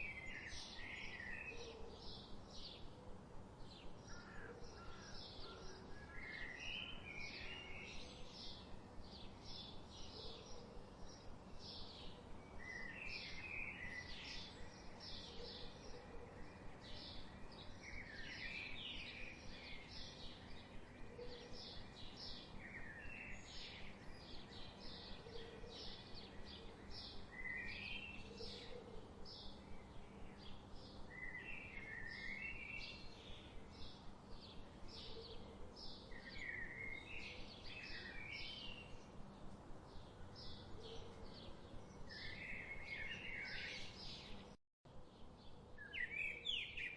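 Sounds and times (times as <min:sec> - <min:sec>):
faint background hiss: 0:00.0 - 0:46.9
songbirds chirping: 0:00.0 - 0:46.9.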